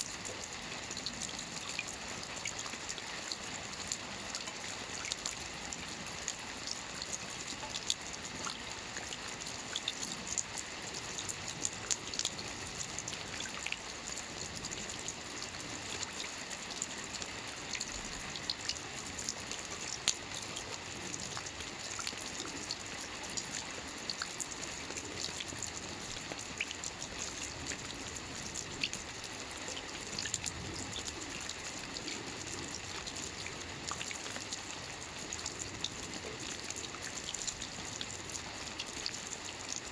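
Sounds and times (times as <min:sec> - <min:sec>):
light rain on a roof: 0:00.0 - 0:39.9.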